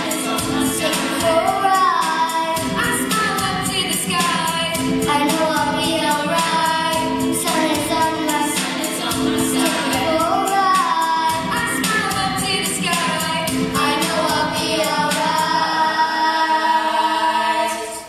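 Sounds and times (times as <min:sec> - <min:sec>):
backing music: 0:00.0 - 0:18.0
girls singing pop song: 0:00.0 - 0:18.0.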